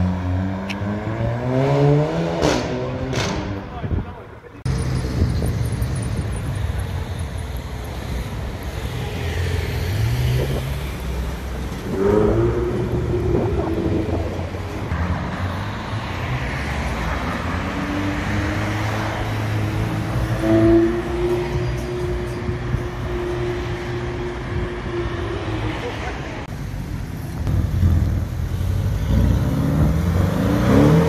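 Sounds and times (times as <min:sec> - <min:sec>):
city traffic: 0:00.0 - 0:31.0.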